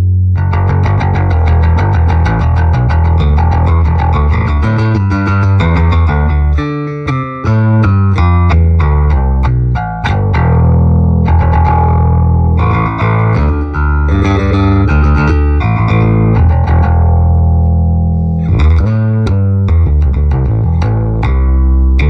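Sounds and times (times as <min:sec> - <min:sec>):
electric bass guitar notes: 0:00.0 - 0:22.0.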